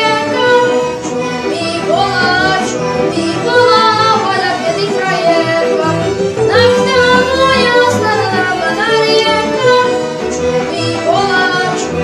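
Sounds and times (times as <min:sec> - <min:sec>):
folk ensemble playing: 0:00.0 - 0:12.0
violins: 0:00.0 - 0:12.0.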